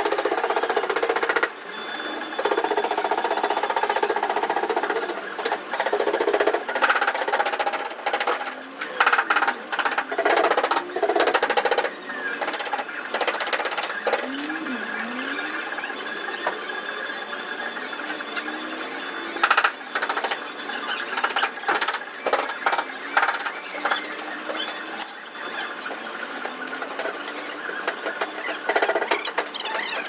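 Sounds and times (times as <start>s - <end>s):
hammering power tool: 0.0s - 30.0s.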